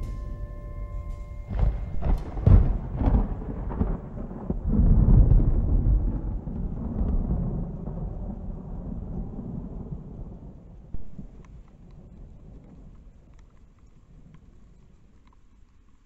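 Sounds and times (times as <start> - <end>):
low rolling rumble: 0.0 - 13.3.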